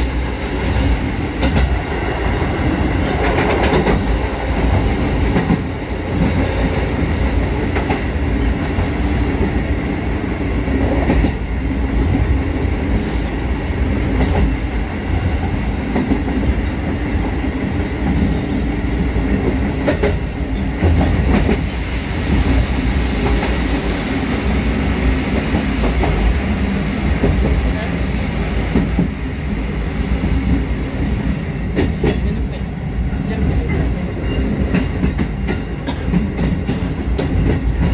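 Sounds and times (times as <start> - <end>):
train rolling rumble: 0.0 - 37.9.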